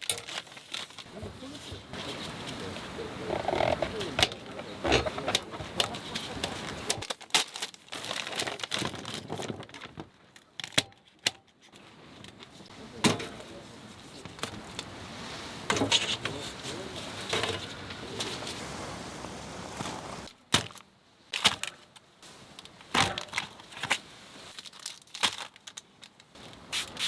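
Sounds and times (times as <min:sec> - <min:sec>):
crinkling and rustling: 0:00.0 - 0:27.0.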